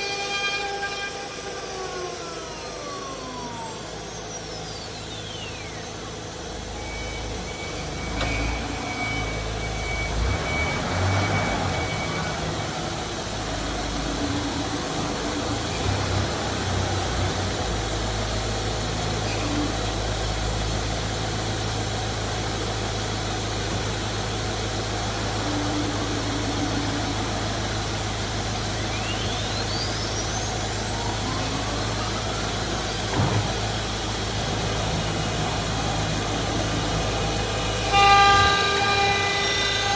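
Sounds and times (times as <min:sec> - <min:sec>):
router motors humming and whining: 0:00.0 - 0:39.9.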